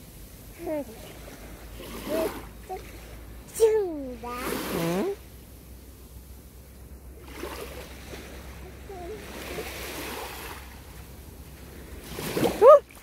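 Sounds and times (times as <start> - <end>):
surf washing up beach: 0.0 - 13.0.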